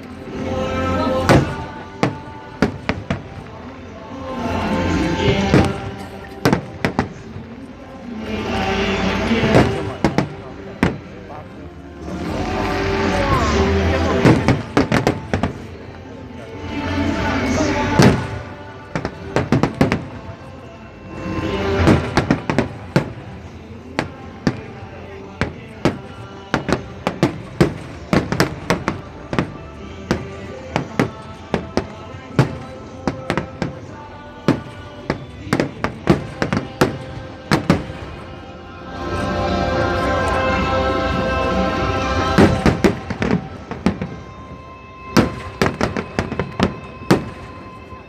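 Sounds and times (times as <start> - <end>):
fireworks bangs: 0.0 - 16.2, 17.1 - 48.0
faint background music: 0.0 - 48.0.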